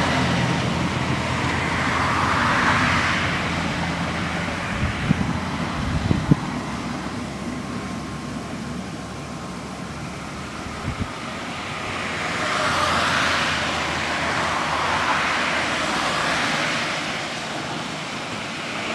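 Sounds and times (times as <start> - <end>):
vehicles passing close by: 0.0 - 18.9.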